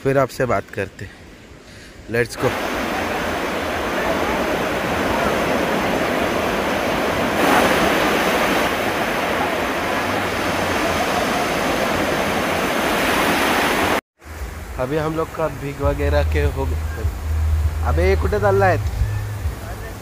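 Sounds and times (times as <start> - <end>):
waves rushing on beach: 1.1 - 20.0
wave breaking: 2.4 - 20.0.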